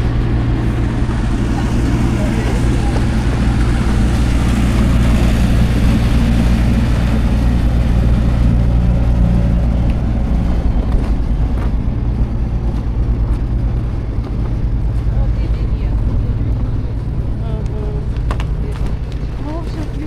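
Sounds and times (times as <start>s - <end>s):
low engine hum: 0.0s - 20.0s
outdoor background noise: 0.0s - 20.0s.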